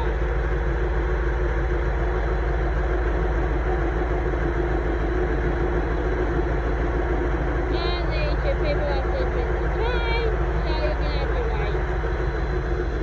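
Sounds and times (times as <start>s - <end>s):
train engine idling hum: 0.0s - 13.0s.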